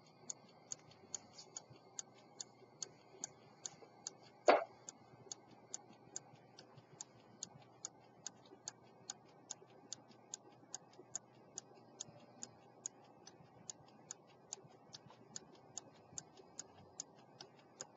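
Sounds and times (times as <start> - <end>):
pocket watch ticking: 0.0 - 17.9.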